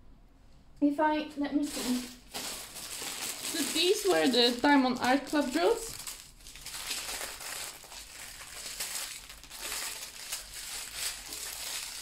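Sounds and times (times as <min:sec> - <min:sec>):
plastic bags crinkling: 0:01.6 - 0:12.0.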